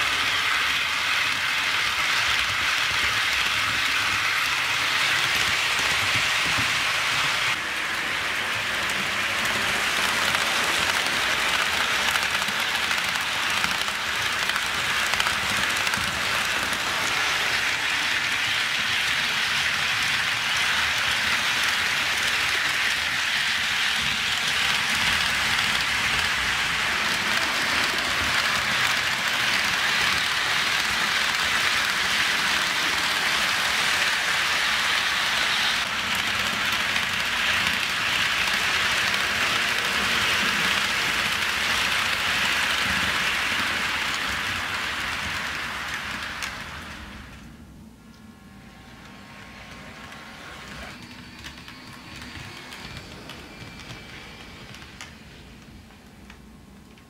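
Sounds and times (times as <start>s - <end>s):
model train wheels on rails: 0.0s - 57.0s.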